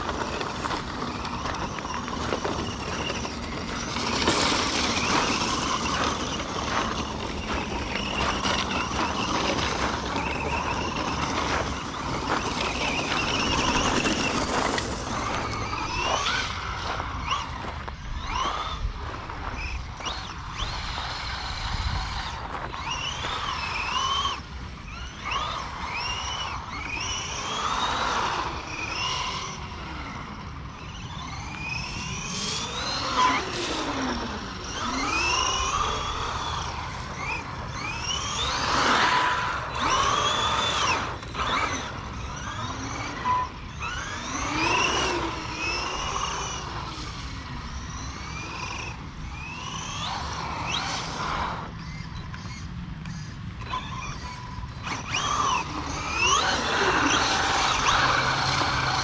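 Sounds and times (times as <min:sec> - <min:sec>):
electric motor whining: 0:00.0 - 0:59.0.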